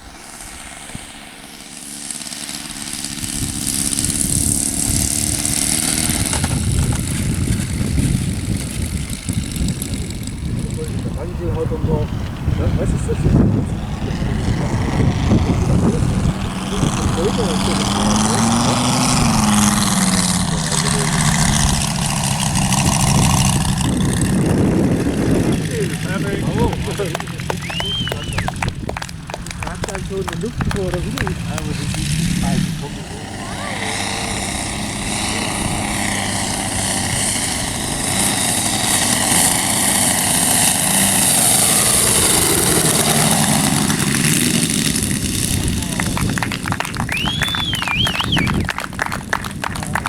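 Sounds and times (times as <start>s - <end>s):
hiss of wind and propeller: 0.0s - 50.0s
model airplane engine running: 0.0s - 50.0s.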